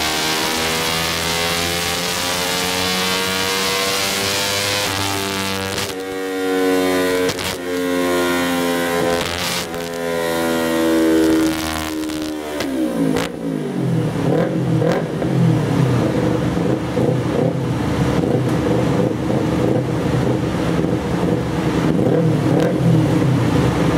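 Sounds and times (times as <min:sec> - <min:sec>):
motorcycle engine revving down: 0:00.0 - 0:23.9.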